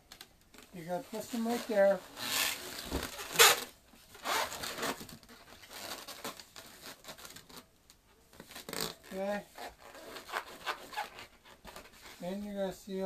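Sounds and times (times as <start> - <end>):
balloons rubbing and squeaking: 0.5 - 7.7, 8.3 - 13.0.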